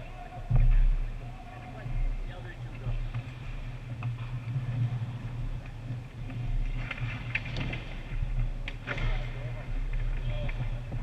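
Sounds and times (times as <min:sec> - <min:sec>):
steady low hum: 0:00.0 - 0:11.0
skates scraping on ice: 0:00.3 - 0:11.0
sticks and puck clacking: 0:00.3 - 0:11.0.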